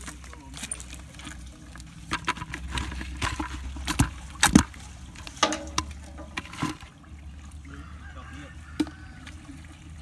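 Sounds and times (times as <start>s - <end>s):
water splashing: 0.9s - 10.0s.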